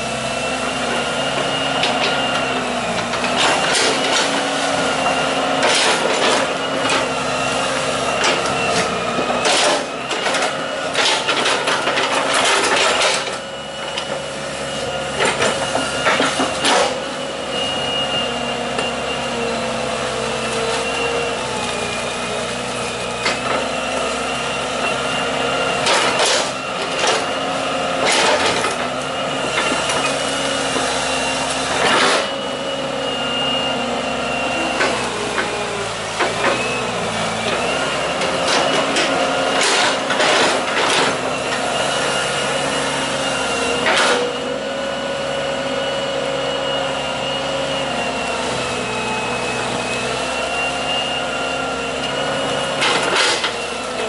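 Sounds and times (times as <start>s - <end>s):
excavator diesel engine whining: 0.0s - 54.0s.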